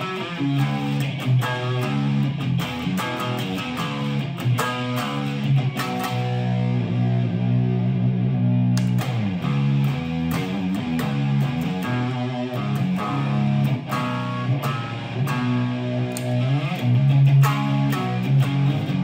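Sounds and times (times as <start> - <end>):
electric guitar chords and notes: 0.0 - 19.0.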